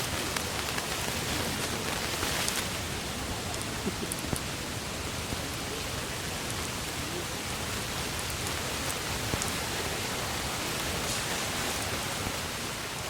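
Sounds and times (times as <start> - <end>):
campfire hissing: 0.0 - 13.0
fire crackles: 0.0 - 13.0.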